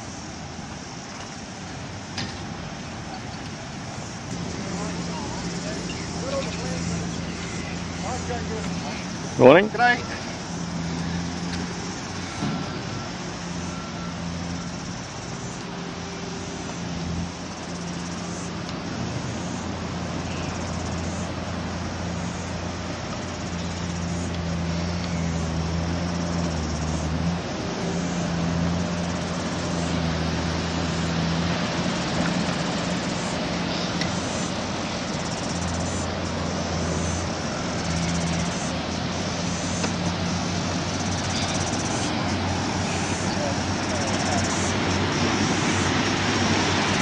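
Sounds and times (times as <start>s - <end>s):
background hiss: 0.0s - 47.0s
vehicle engine humming: 0.0s - 47.0s.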